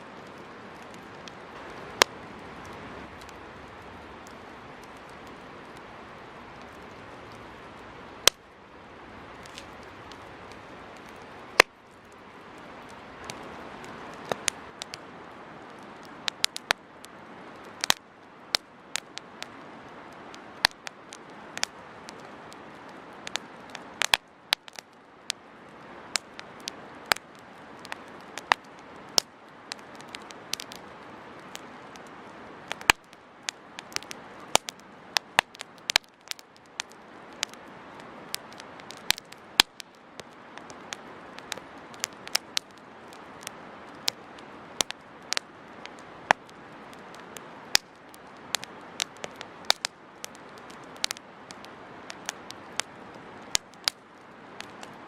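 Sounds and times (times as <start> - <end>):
campfire crackling and popping: 0.0 - 55.0
soft hiss of flames: 0.0 - 55.0.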